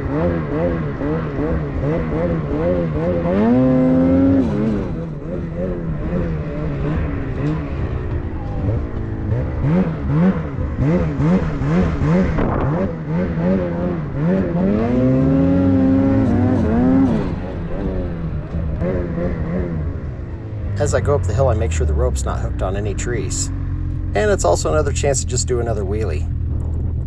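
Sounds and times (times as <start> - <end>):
snowmobile engine revving: 0.0 - 19.8, 20.7 - 26.3.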